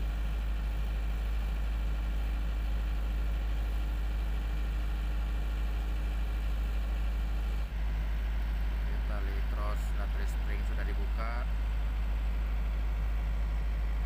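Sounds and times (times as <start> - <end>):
diesel engines droning: 0.0 - 14.0.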